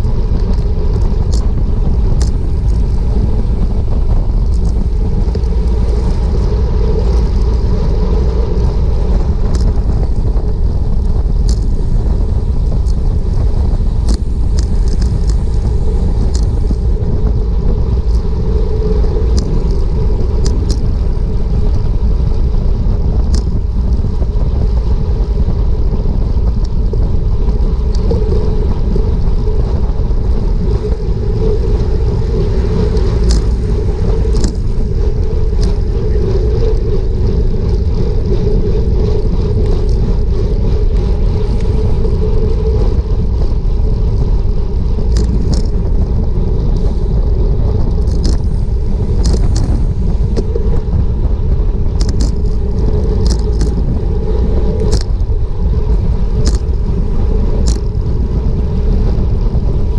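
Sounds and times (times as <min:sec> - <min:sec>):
wind rumbling on microphone: 0:00.0 - 0:59.9.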